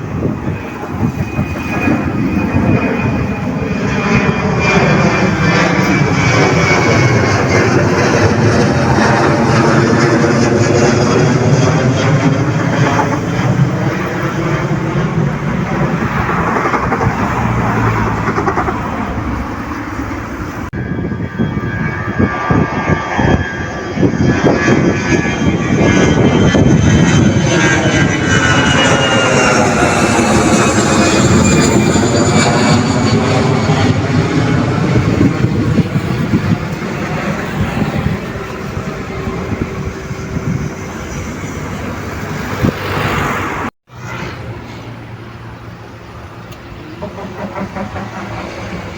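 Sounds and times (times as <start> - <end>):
airliner engines passing: 0.0 - 48.9.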